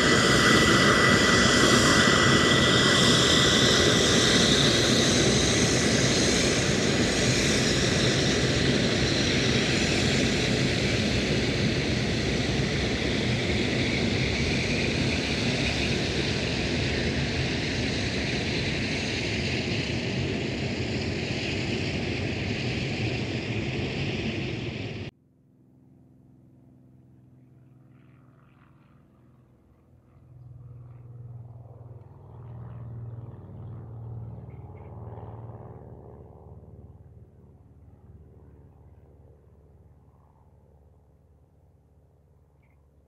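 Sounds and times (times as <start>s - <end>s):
jet engines rumbling with whine: 0.0s - 25.2s, 25.8s - 43.0s.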